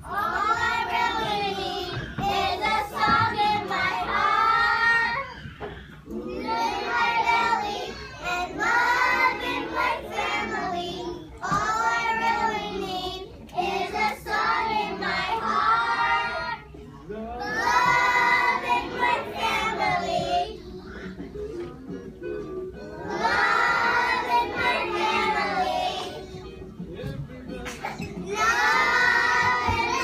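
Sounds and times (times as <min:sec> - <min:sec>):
young children singing: 0:00.0 - 0:30.0.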